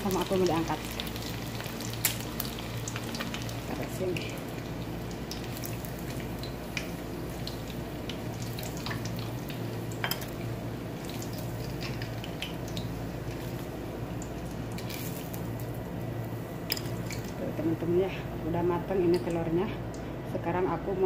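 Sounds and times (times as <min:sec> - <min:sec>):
hot oil crackling and popping: 0:00.0 - 0:20.1
steady low hum: 0:00.0 - 0:21.0.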